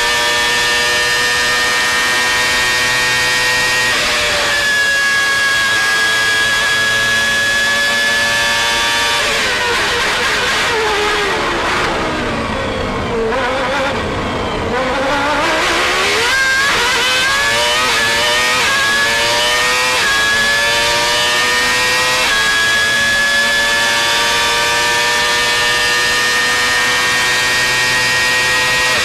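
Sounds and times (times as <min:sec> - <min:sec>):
racing car engine revving: 0:00.0 - 0:29.0.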